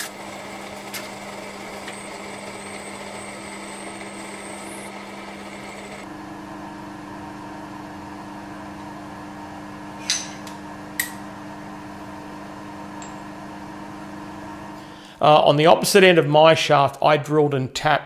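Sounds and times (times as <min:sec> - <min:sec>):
milling machine humming: 0:00.0 - 0:14.8.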